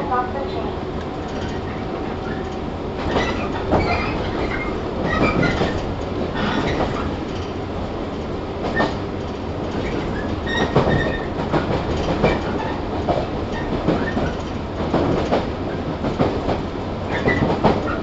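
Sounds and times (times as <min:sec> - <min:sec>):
train running gear rumble: 0:00.0 - 0:18.0.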